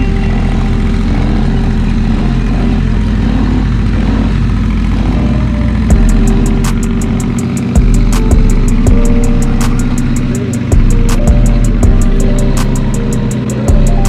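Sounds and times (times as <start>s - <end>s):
atv engine running: 0.0s - 14.0s
fast regular ticking: 0.3s - 14.0s.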